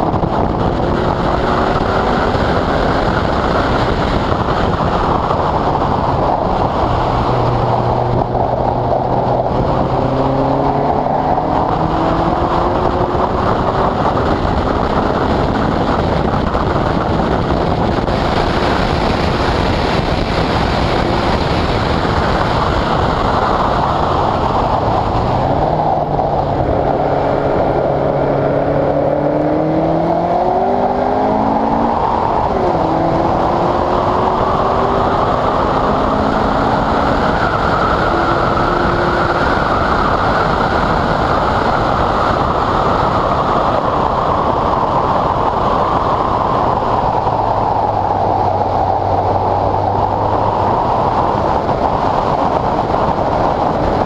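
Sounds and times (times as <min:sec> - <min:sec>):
road noise: 0:00.0 - 0:54.0
sports car engine: 0:00.0 - 0:54.0
wind noise: 0:00.0 - 0:54.0.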